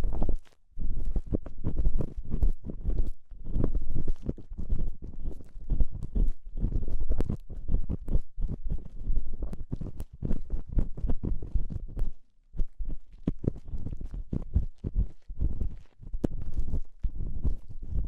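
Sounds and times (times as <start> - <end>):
scratching and rubbing in ear: 0.0 - 18.0.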